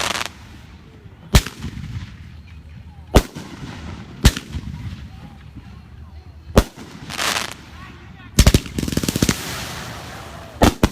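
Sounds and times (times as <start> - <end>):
firework bangs: 0.0 - 0.7, 1.3 - 5.6, 6.5 - 7.8, 8.4 - 10.9.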